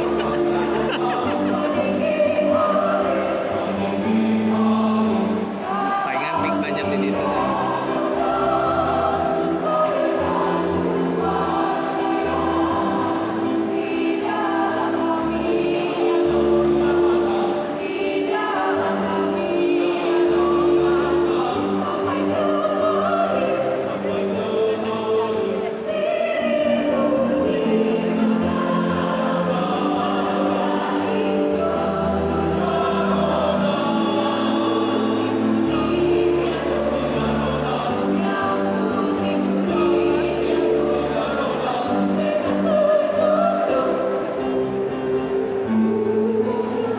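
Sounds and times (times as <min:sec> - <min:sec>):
choir singing in harmony: 0:00.0 - 0:46.9
musical accompaniment: 0:00.0 - 0:46.9.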